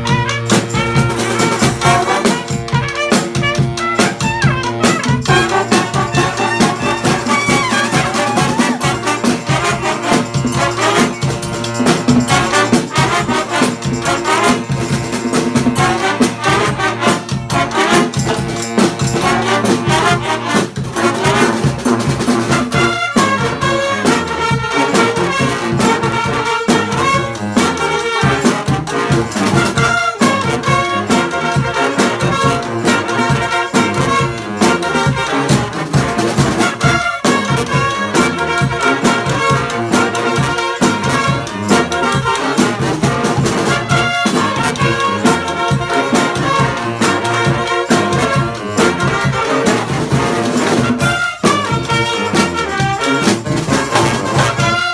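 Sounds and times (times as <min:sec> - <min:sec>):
brass band playing: 0:00.0 - 0:54.9
marching drum beat: 0:00.0 - 0:54.9.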